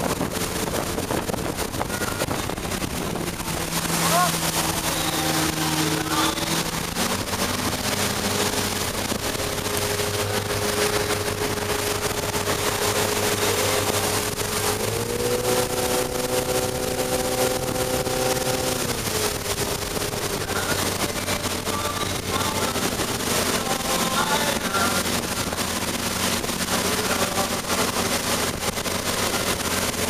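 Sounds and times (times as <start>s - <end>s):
boat engine running: 0.0s - 30.0s
rushing wake water: 0.0s - 30.0s
wind: 0.0s - 30.0s.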